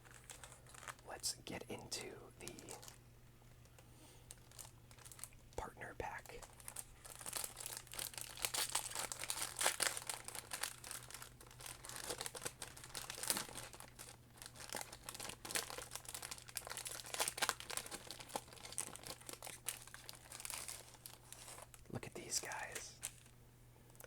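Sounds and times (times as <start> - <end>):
plastic packaging crinkling and tearing: 0.0 - 1.3, 2.0 - 3.0, 3.6 - 23.4.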